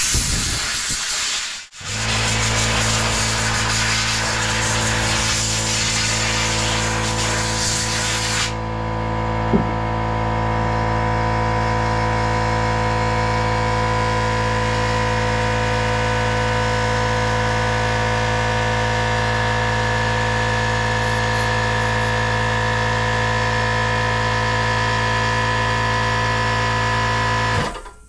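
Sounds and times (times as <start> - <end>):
air compressor humming: 1.8 - 15.3, 18.4 - 27.6.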